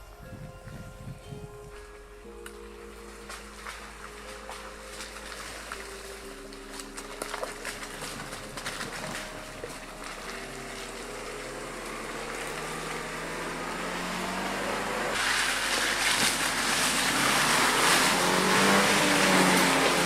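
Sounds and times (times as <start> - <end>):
car engine accelerating: 0.0 - 20.0
tyre and road noise: 0.0 - 20.0.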